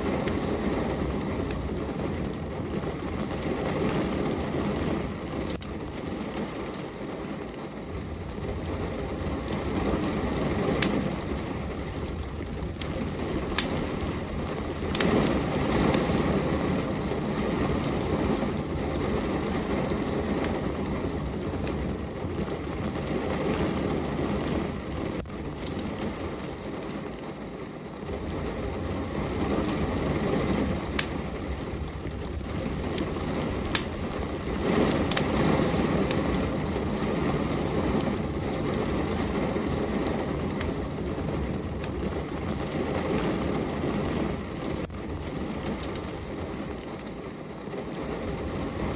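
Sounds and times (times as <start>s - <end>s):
steady rain: 0.0s - 48.9s
wood fire crackling: 0.0s - 48.9s.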